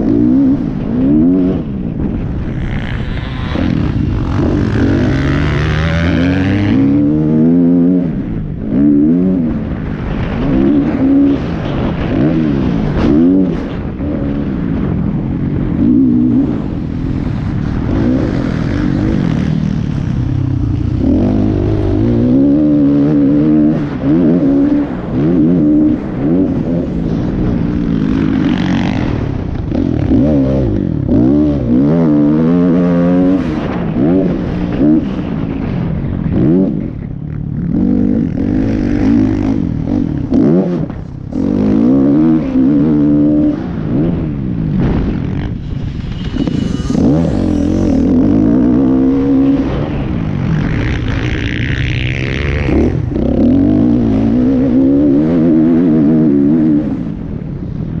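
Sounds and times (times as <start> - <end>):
dirt bike engine revving: 0.0 - 57.3.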